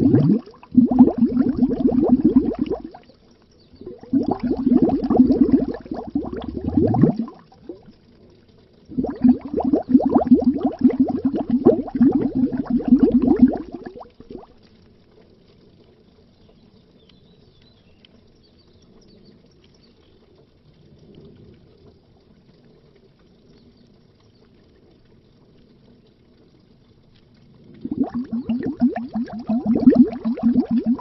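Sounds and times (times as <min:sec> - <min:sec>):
underwater bubbling: 0:00.0 - 0:16.9, 0:18.0 - 0:31.0
faint underwater ambience: 0:00.0 - 0:31.0.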